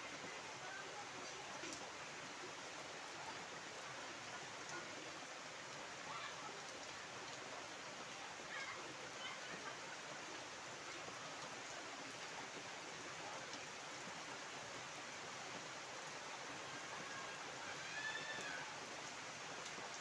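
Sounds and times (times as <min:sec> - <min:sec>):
heavy rain on water and foliage: 0:00.0 - 0:20.0.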